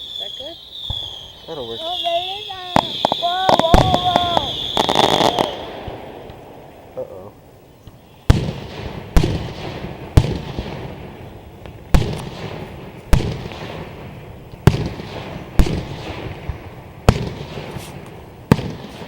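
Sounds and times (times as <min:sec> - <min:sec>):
fireworks booming with echo: 0:00.0 - 0:19.0.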